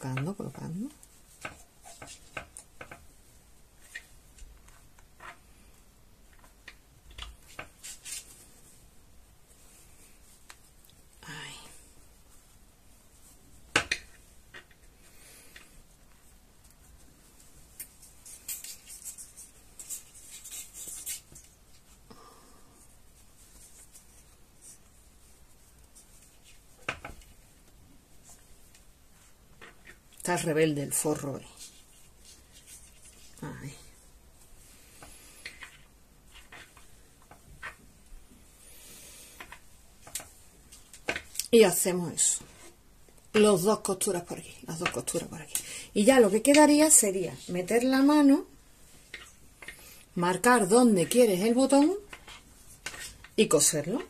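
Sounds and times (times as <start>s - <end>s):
fabric rustling and rubbing: 0.0s - 22.1s, 22.8s - 54.0s.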